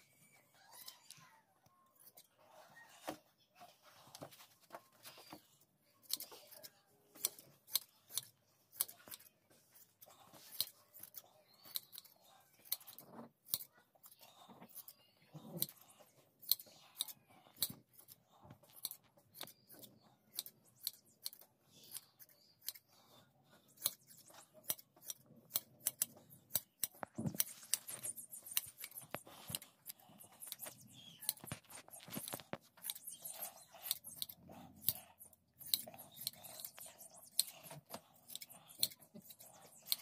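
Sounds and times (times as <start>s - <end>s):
shears snipping fleece: 6.0s - 23.0s, 23.6s - 40.0s.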